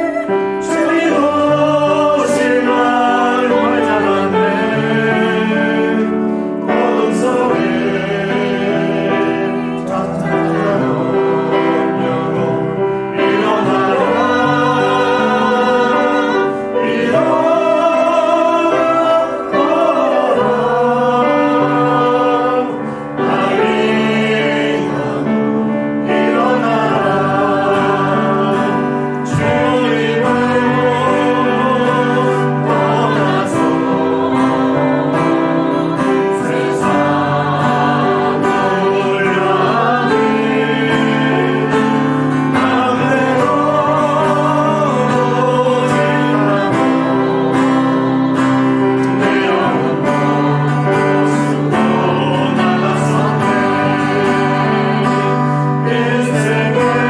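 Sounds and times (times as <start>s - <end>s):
group singing worship song: 0.0s - 57.0s
instrumental accompaniment: 0.0s - 57.0s.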